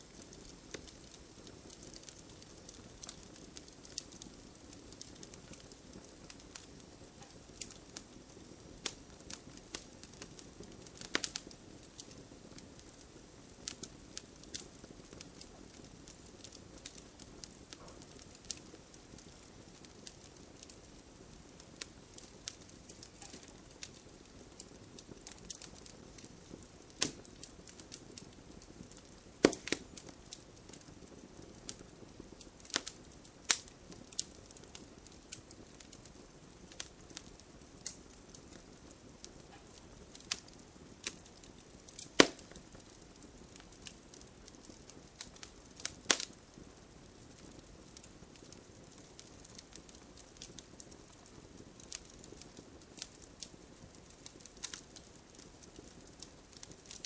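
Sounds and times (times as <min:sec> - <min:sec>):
fireplace crackling and popping: 0:00.0 - 0:57.0.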